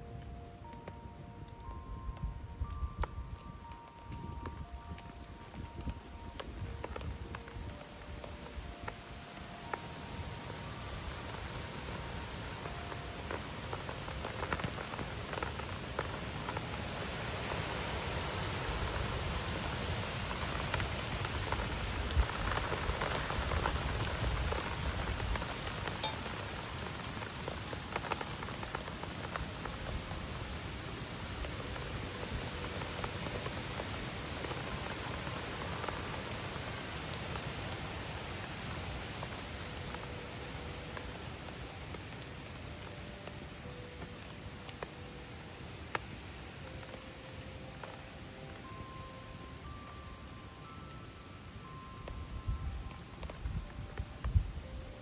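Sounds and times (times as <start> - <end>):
campfire crackling and popping: 0.0 - 55.0
steady rain falling: 0.0 - 55.0.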